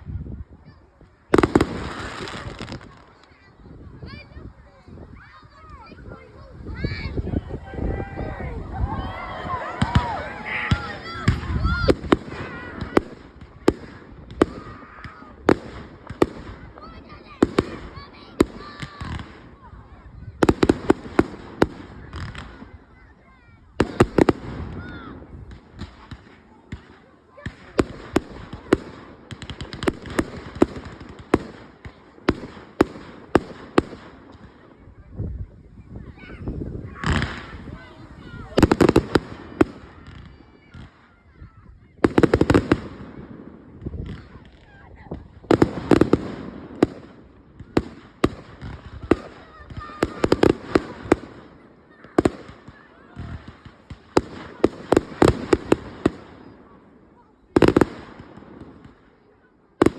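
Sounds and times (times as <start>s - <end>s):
fireworks crackle: 1.0s - 7.8s, 8.6s - 59.9s
fireworks bangs: 1.2s - 35.1s, 36.0s - 59.9s.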